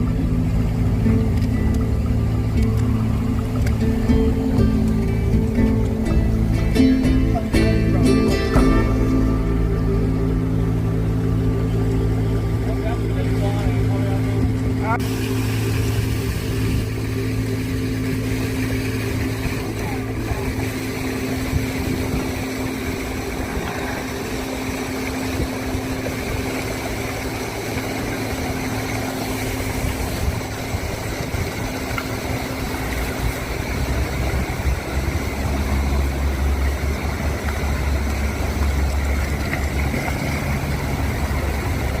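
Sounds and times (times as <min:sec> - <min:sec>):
boat motor humming: 0:00.0 - 0:42.0
heavy low rumble: 0:00.0 - 0:42.0.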